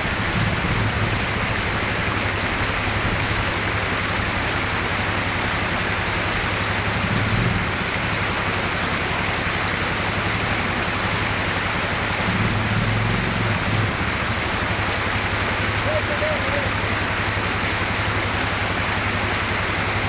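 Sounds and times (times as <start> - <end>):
creek water rushing over rocks: 0.0 - 20.0
quad bike engine running: 0.0 - 20.0.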